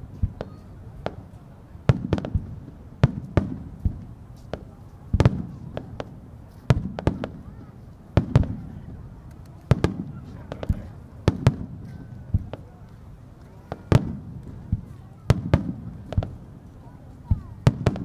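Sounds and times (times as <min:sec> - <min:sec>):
firework bangs: 0:00.1 - 0:12.8, 0:13.5 - 0:16.6, 0:17.2 - 0:18.0.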